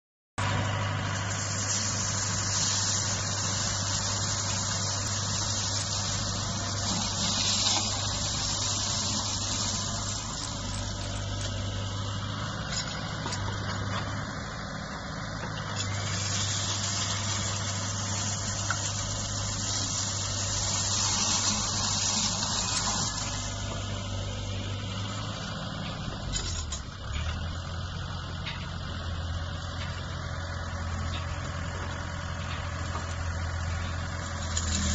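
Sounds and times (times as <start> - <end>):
flail mower cutting reeds: 0.4 - 14.6, 15.5 - 27.5, 29.4 - 34.9
diesel engine humming: 0.4 - 34.9.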